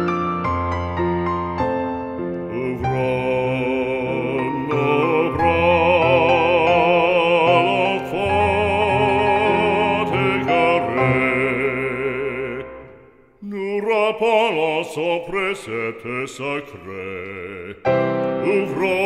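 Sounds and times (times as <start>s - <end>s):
slow religious song: 0.6s - 19.0s.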